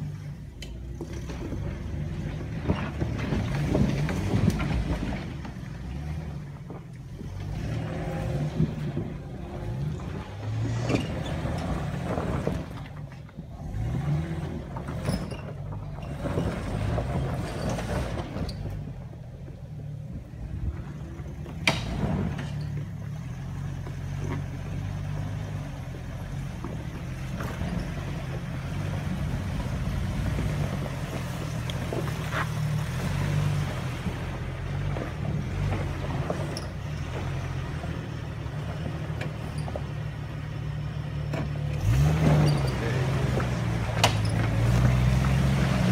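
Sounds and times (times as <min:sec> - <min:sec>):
off-road vehicle engines revving: 0:00.0 - 0:45.9.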